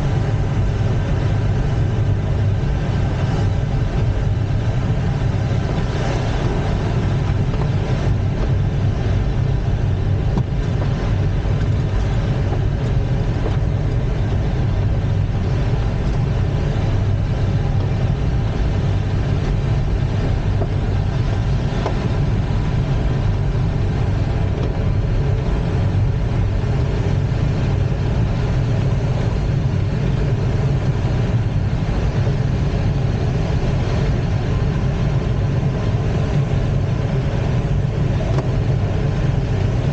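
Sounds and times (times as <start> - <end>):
airflow rushing around cockpit: 0.0 - 39.9.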